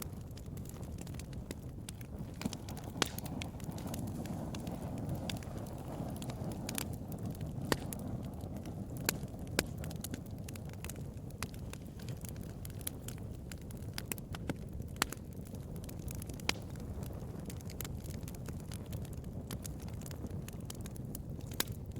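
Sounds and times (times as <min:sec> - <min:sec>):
bonfire crackling and popping: 0:00.0 - 0:21.9.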